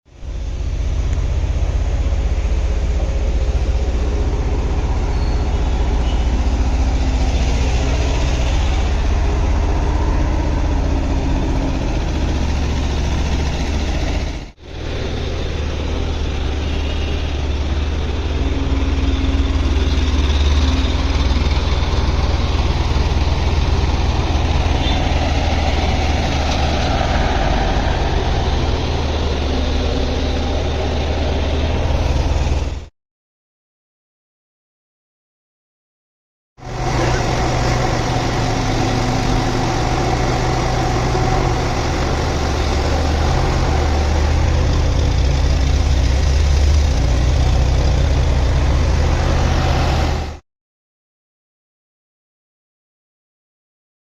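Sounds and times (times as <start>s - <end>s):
excavator diesel engines running: 0.1s - 32.9s, 36.6s - 50.4s.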